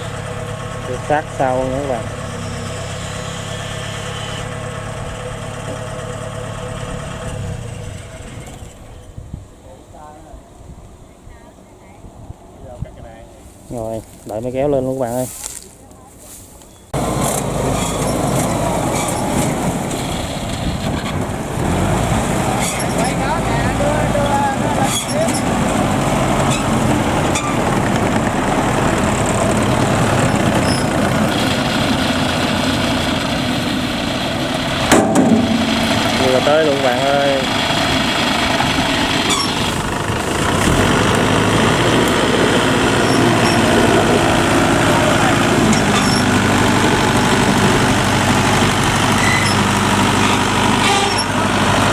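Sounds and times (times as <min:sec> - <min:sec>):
diesel engine running: 0:00.0 - 0:11.0, 0:16.9 - 0:51.9.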